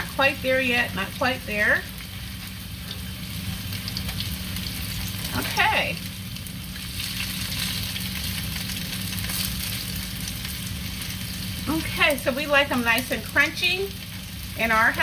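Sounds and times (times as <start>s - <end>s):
potato patties sizzling in oil: 0.0s - 15.0s.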